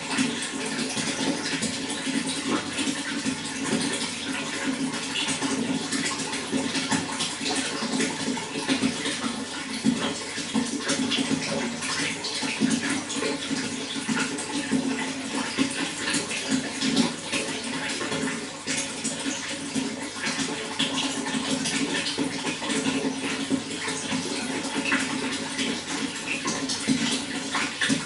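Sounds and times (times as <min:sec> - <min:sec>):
water running: 0:00.0 - 0:28.0.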